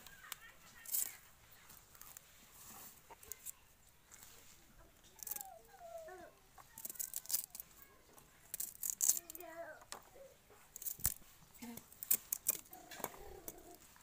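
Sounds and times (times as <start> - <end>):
leafy greens rustling and crackling: 0.0 - 14.0.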